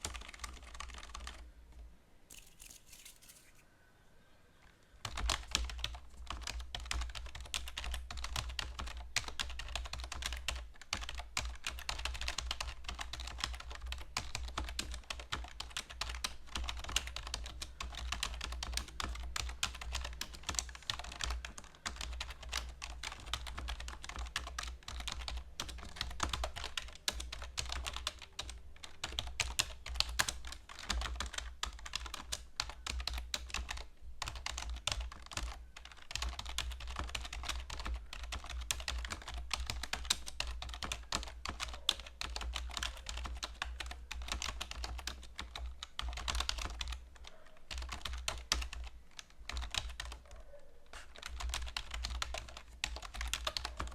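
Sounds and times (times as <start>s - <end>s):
computer keyboard typing: 0.0s - 1.4s, 5.0s - 50.3s, 50.9s - 53.9s.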